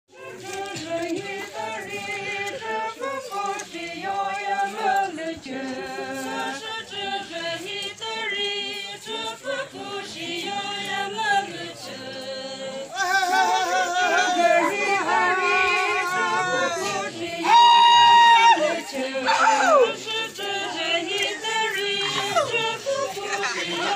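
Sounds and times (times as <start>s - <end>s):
women singing unaccompanied: 0.1s - 23.9s.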